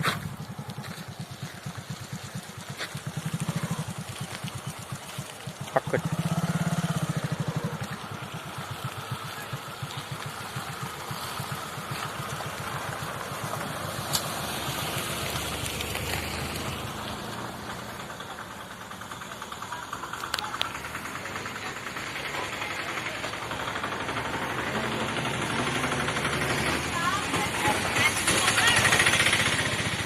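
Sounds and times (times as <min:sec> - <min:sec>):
motorcycle engine puttering: 0:00.0 - 0:30.0.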